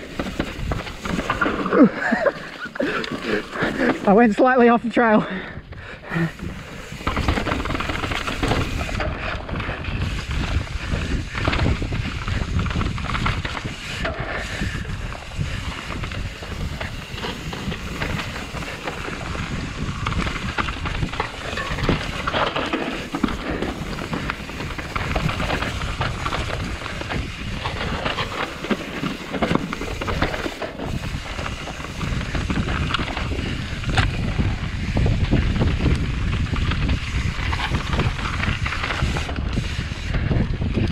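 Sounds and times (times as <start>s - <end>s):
bike knocks and rattles: 0.0s - 4.2s, 6.4s - 40.9s
tyres rushing on dirt: 0.0s - 5.3s, 6.1s - 40.9s
wind over microphone: 0.0s - 40.9s.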